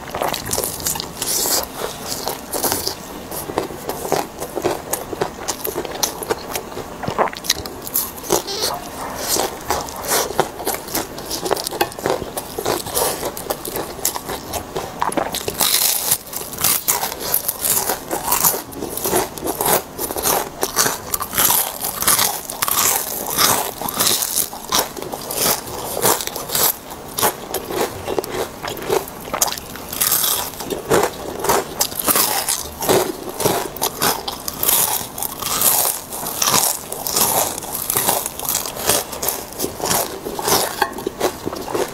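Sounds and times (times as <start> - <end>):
crunching of fried food being chewed: 0.0 - 41.9.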